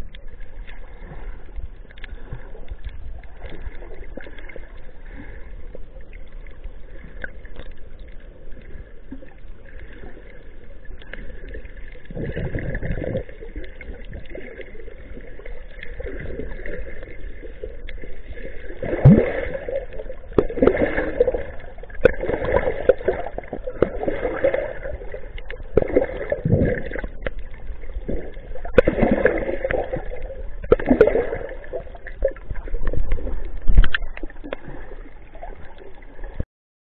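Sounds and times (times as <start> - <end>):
muffled underwater sloshing: 0.0 - 36.4.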